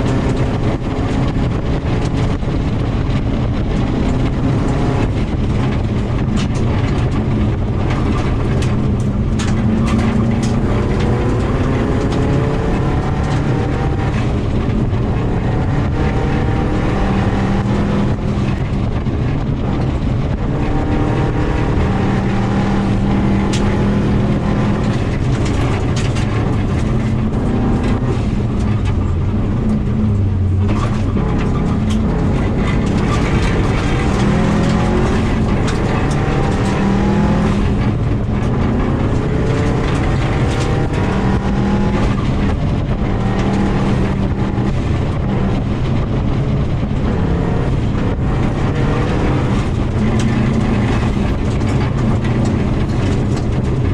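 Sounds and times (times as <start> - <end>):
car engine revving: 0.0 - 53.9
gravel rattling against car underside: 0.0 - 53.9.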